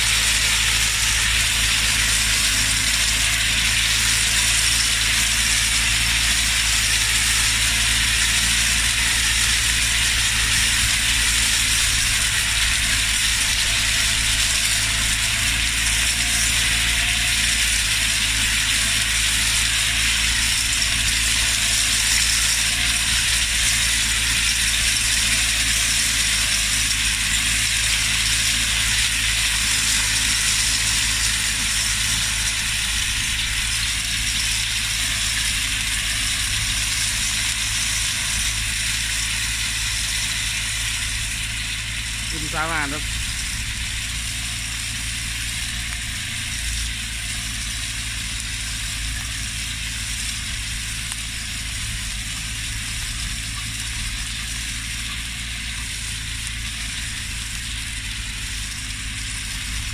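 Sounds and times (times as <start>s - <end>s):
low running hum: 0.0s - 59.9s
machine rattling stripping leaves: 0.0s - 59.9s.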